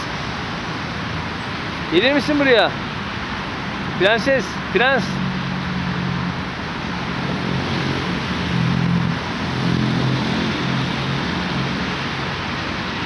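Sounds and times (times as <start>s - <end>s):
passing vehicles rushing: 0.0s - 13.0s.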